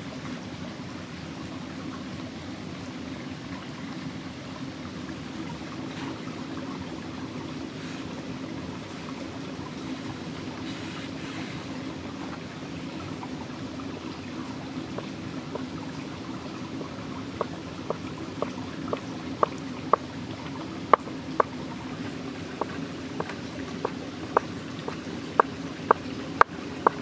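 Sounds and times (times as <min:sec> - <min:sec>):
flowing river water: 0:00.0 - 0:27.0.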